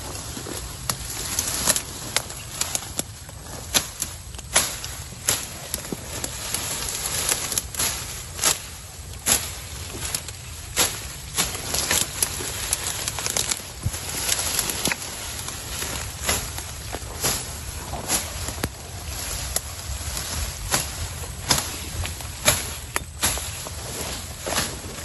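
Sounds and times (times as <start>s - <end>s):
footsteps through undergrowth: 0.0s - 25.0s
stems and twigs snapping: 0.5s - 25.0s.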